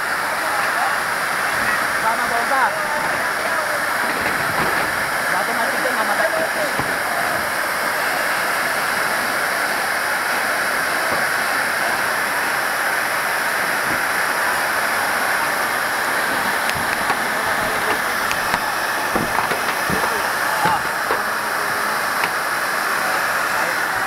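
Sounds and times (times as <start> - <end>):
hose nozzle spraying water: 1.2 - 23.3.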